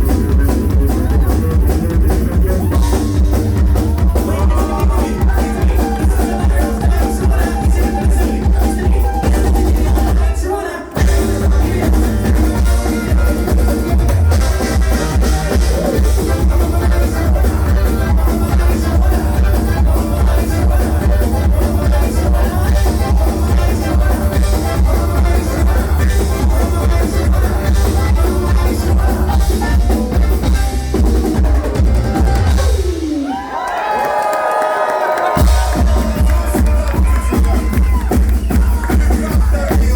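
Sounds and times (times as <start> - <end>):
drum kit: 0.0 - 10.4, 11.0 - 34.1, 35.0 - 39.9
live bluegrass rock band: 0.0 - 33.7, 35.2 - 39.9.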